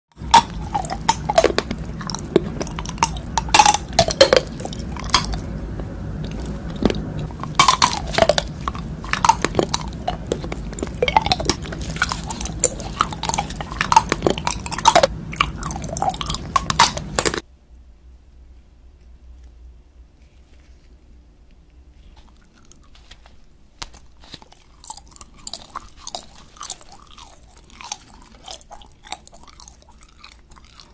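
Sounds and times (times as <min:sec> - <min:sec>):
crunching hard candy: 0:00.1 - 0:17.4, 0:22.1 - 0:30.9
wet sticky mouth sounds: 0:00.2 - 0:17.4, 0:22.1 - 0:30.9.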